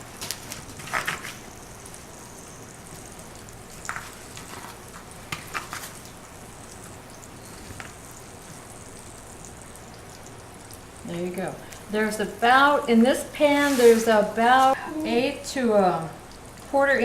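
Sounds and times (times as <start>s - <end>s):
oil crackles: 0.0s - 15.5s.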